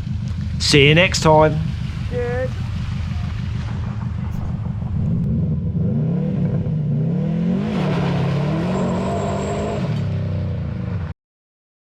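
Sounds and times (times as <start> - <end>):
car engine accelerating hard: 0.0 - 11.1.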